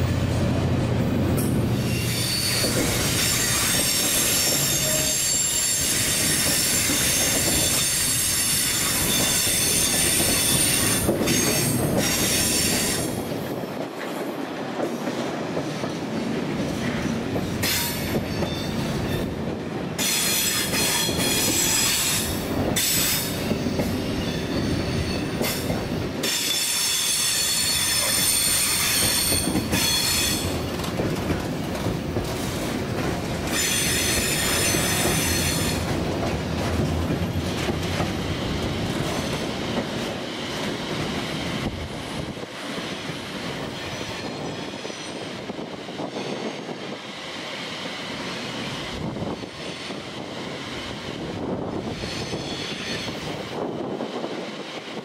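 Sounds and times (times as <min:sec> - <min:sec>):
train rumble and rail clatter: 0:00.0 - 0:55.0
train wheels squealing on rails: 0:01.2 - 0:55.0.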